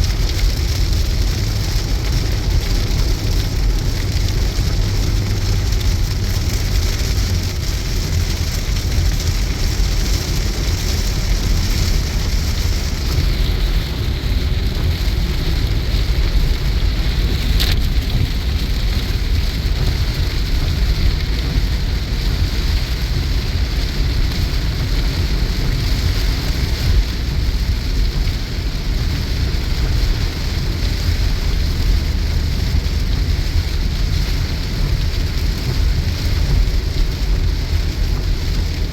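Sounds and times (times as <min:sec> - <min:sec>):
heavy rain noise: 0:00.0 - 0:38.9
low road rumble: 0:00.0 - 0:38.9.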